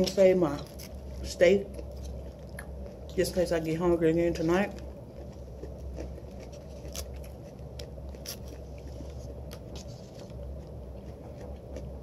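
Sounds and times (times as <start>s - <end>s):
low steady hum: 0.0s - 12.0s
person chewing: 0.6s - 3.2s, 4.7s - 12.0s.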